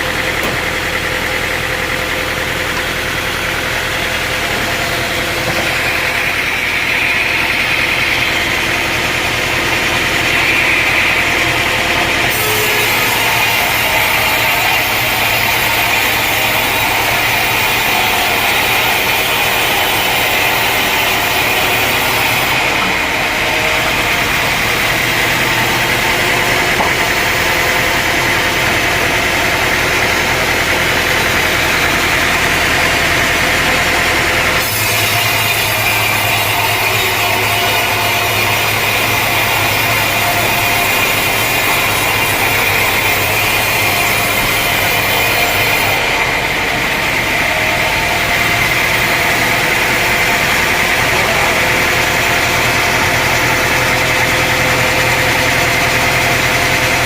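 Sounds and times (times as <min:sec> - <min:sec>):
saw blade cutting log: 0:00.0 - 0:57.0
sawmill engine running: 0:00.0 - 0:57.0.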